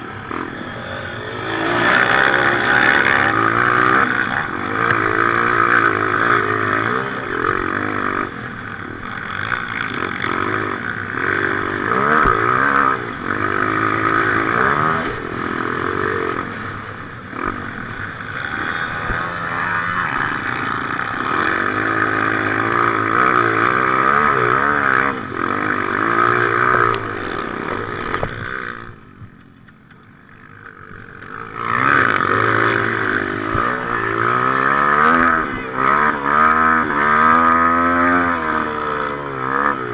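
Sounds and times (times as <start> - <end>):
motocross bike engine revving: 0.0 - 29.1, 30.3 - 39.9.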